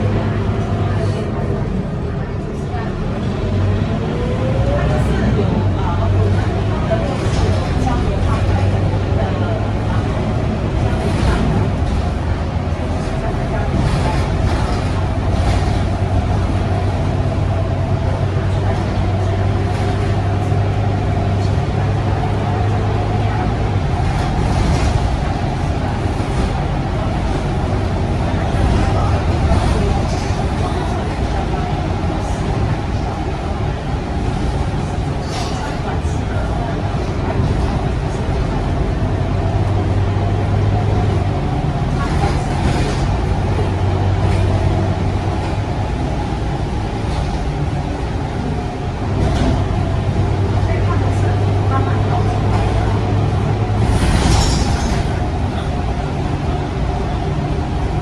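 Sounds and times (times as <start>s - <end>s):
bus diesel engine drone: 0.0s - 58.0s
road noise: 0.0s - 58.0s.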